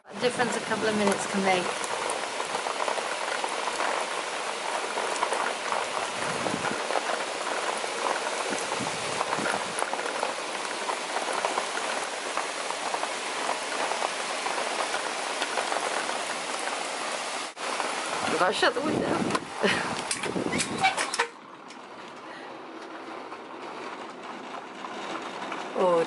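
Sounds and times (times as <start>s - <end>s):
heavy rain hiss: 0.0s - 23.1s.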